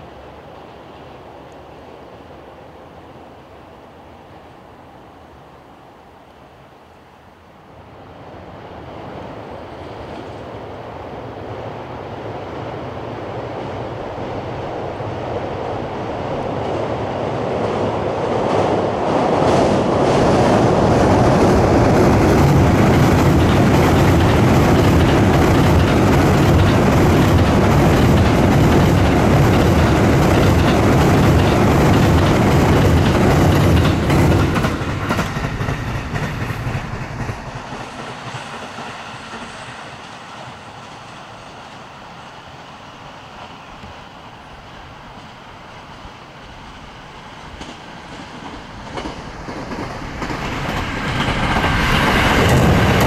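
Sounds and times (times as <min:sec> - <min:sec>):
train rumbling over bridge: 0:00.0 - 0:53.0.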